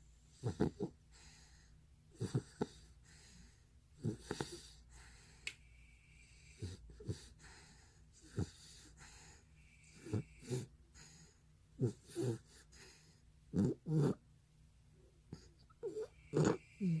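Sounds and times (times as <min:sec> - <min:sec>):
dog snoring: 0:00.3 - 0:05.3, 0:06.2 - 0:14.2, 0:15.3 - 0:17.0.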